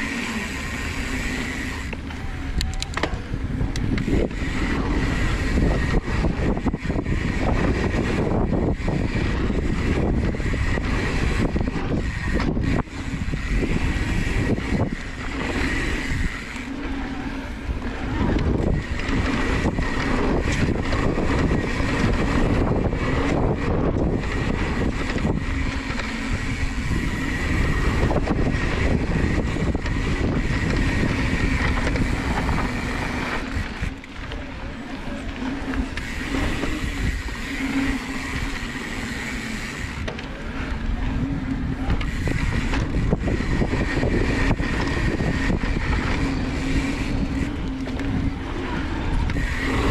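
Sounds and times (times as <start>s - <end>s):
bike rattling over bumps: 0.0s - 49.9s
bike tyre noise on dirt: 0.0s - 49.9s
wind rumble on microphone: 0.0s - 49.9s.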